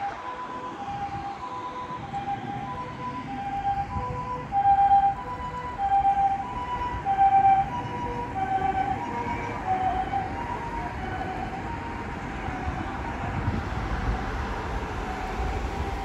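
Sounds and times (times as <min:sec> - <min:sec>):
ambulance two-tone siren: 0:00.0 - 0:16.0
road noise: 0:00.0 - 0:16.0.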